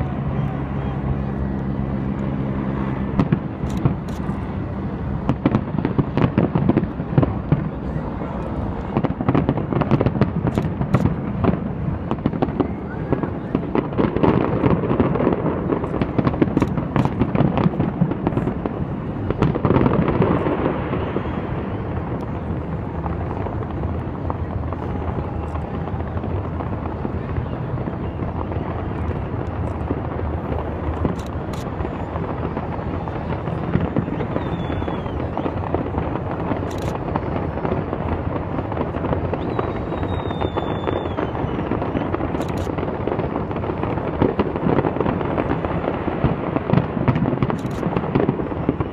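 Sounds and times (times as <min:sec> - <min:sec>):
fireworks bangs and crackling: 0:00.0 - 0:48.9
sharp firework cracks: 0:08.8 - 0:48.9.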